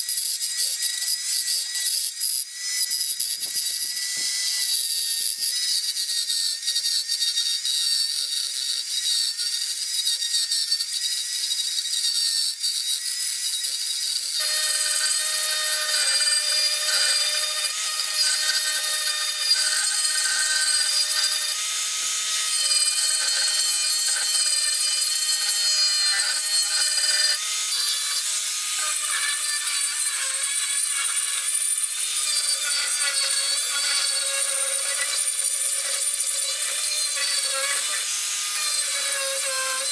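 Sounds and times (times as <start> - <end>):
power tool grinding wood: 0.0 - 39.9.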